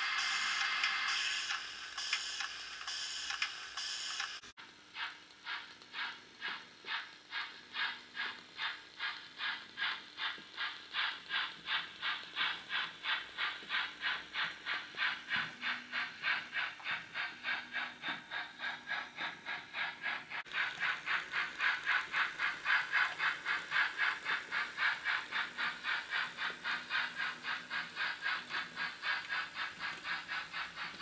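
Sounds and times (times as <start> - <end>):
rhythmic steam chuff from loudspeaker: 0.0 - 31.0.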